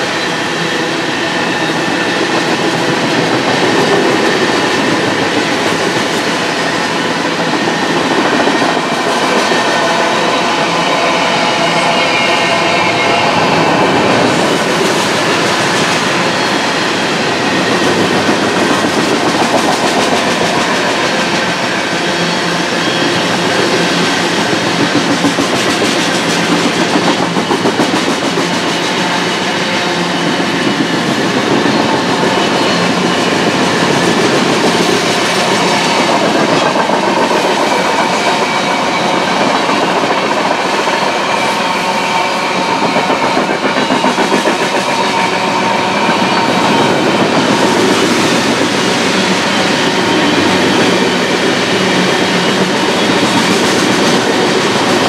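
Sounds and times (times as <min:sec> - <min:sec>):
steel wheels rolling on rail: 0:00.0 - 0:55.0.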